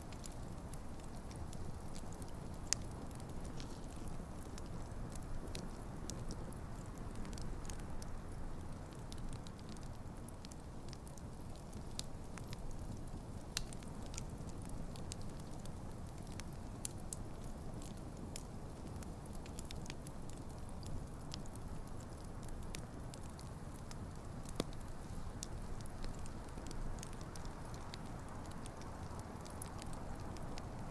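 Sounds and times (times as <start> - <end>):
fire crackling and popping: 0.0 - 30.9.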